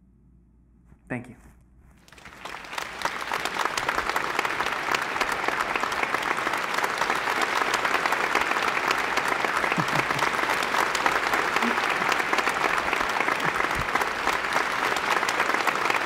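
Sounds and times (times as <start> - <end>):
audience applause: 2.0 - 16.0.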